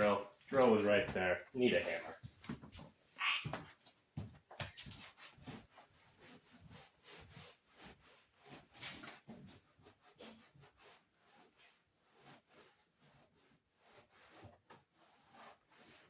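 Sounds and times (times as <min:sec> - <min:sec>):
rubbing or scraping: 0:00.5 - 0:03.5, 0:04.6 - 0:16.0.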